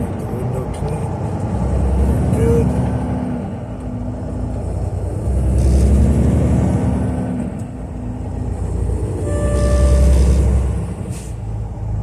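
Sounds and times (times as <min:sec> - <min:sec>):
road noise: 0:00.0 - 0:12.0
truck diesel engine rumble: 0:00.0 - 0:12.0.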